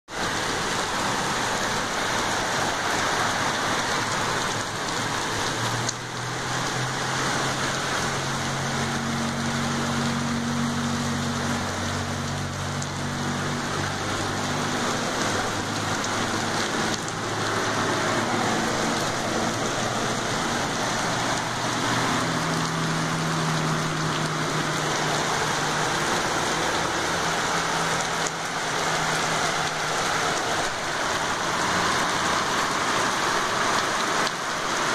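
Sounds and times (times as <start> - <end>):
heavy rain downpour: 0.1 - 34.9
tyres splashing through water: 0.1 - 34.9
passing traffic engine hum: 0.2 - 34.9.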